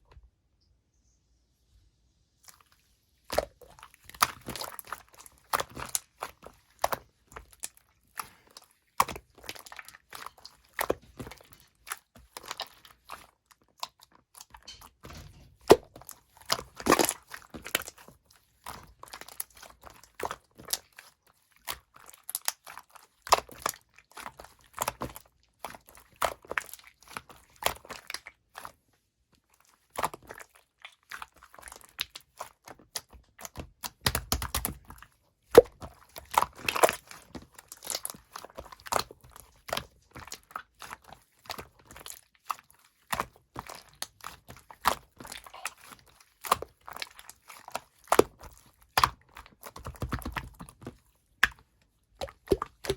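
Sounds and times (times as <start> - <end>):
slime squished by hand: 2.4 - 28.8, 29.5 - 52.9.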